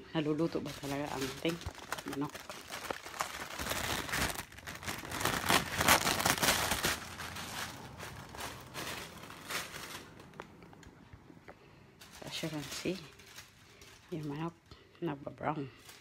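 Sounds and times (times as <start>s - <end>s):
plastic bag crinkling: 0.0s - 11.1s, 12.0s - 14.6s, 15.7s - 16.0s.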